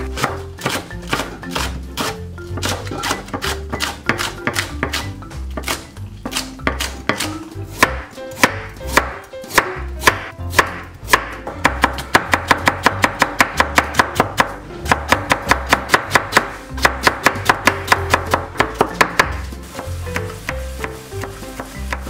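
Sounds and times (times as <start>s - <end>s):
knife chopping on cutting board: 0.0s - 22.0s.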